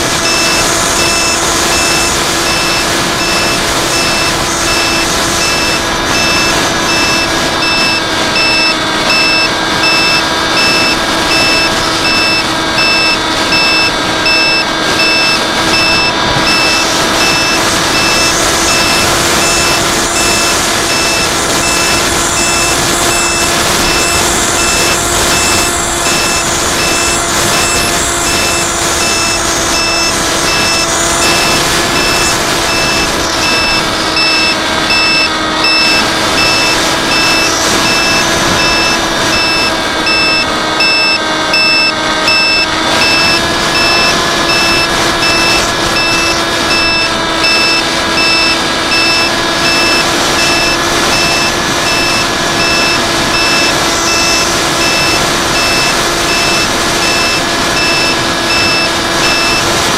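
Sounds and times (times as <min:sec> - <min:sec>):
fast electronic beeps: 0:00.0 - 0:59.7
drone propellers whining: 0:00.0 - 0:59.9
wind noise: 0:00.0 - 0:59.9.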